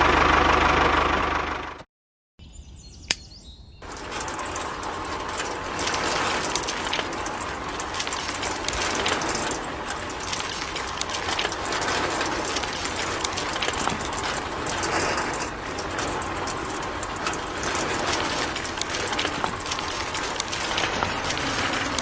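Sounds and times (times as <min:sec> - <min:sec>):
small machine rattling: 0:03.8 - 0:22.0.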